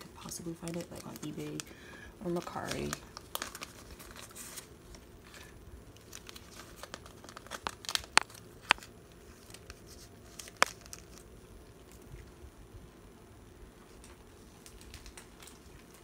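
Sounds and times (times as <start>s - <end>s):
plastic sleeves crinkling: 0.0s - 12.4s, 13.8s - 16.0s.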